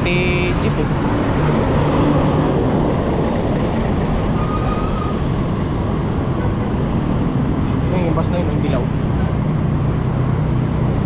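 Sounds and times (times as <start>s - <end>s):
road traffic noise: 0.0s - 11.0s
vehicle engines running: 0.0s - 11.0s.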